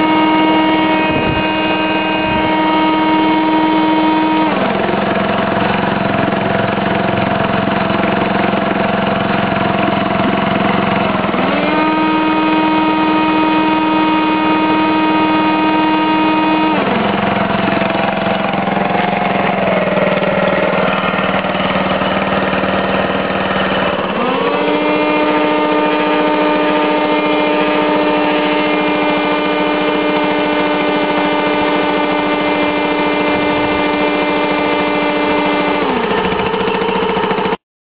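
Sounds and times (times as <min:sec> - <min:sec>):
generator humming: 0:00.0 - 0:37.6
vacuum cleaner motor whine: 0:00.0 - 0:37.6.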